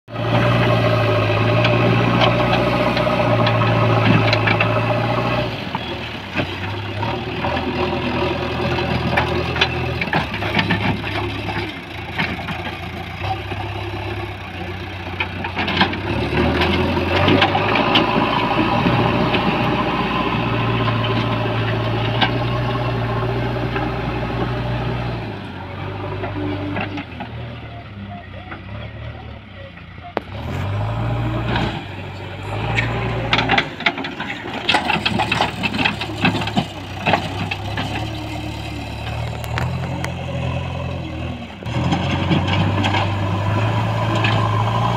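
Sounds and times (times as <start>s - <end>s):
backhoe diesel engine under load: 0.1s - 44.9s.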